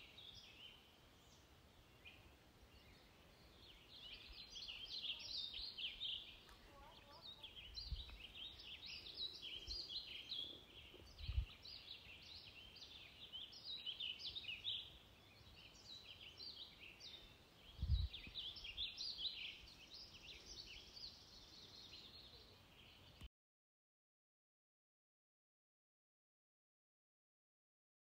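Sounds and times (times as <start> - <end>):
small birds chirping and twittering: 0.0 - 23.3.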